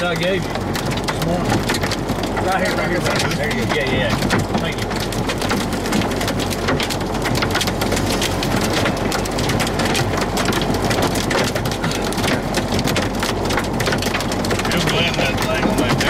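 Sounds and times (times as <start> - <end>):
heavy rain on vehicle roof: 0.0 - 16.0.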